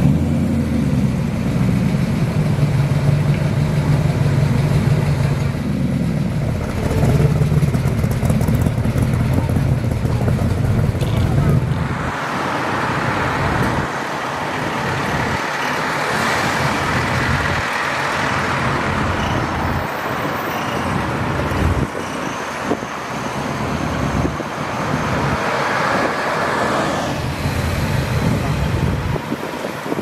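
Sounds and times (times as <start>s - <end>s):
car engines driving past: 0.0s - 30.0s
street traffic noise: 0.0s - 30.0s.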